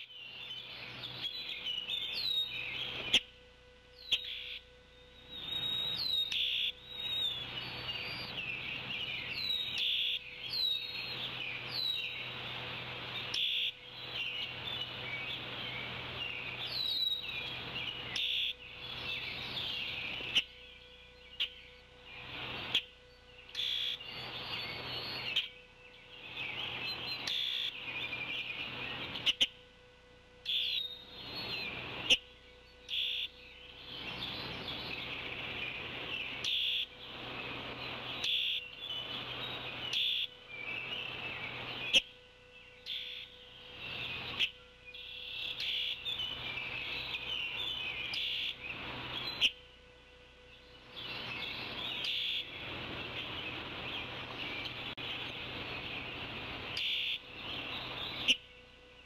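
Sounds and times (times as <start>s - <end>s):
songbirds chirping and singing: 0.0s - 29.6s, 30.4s - 59.0s.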